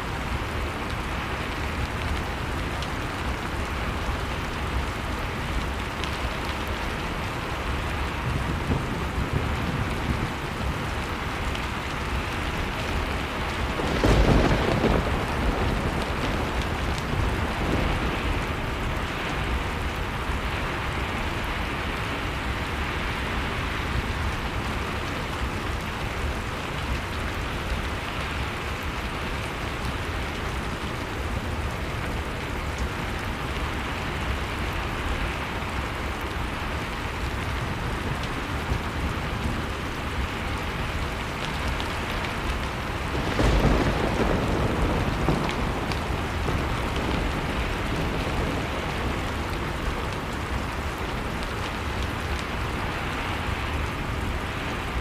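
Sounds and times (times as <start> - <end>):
blizzard wind: 0.0 - 55.0
fire crackling in fireplace: 0.1 - 22.7, 23.6 - 55.0.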